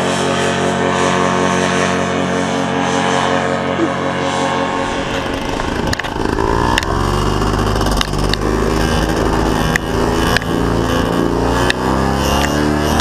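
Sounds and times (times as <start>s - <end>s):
paramotor engine running hard: 0.0s - 13.0s.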